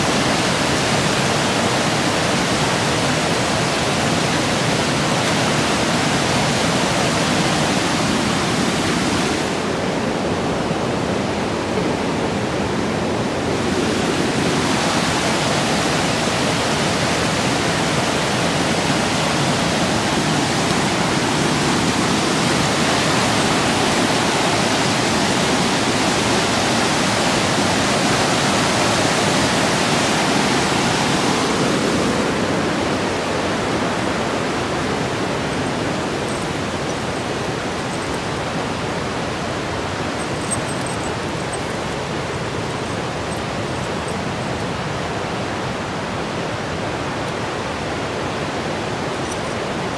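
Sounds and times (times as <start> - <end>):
river rushing through rapids: 0.0 - 49.9.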